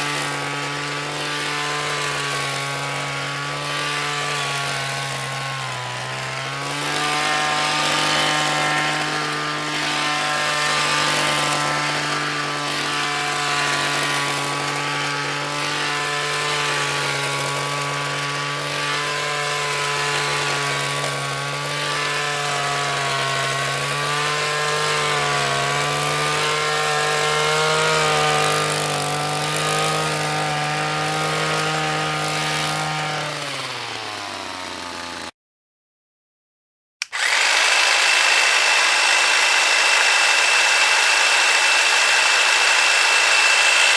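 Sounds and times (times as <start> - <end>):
hedge trimmer motor running: 0.0 - 35.3, 37.0 - 43.9.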